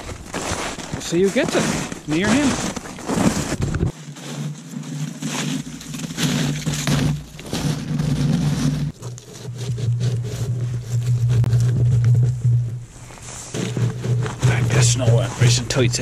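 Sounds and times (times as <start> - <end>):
footsteps crunching in snow: 0.0 - 16.0.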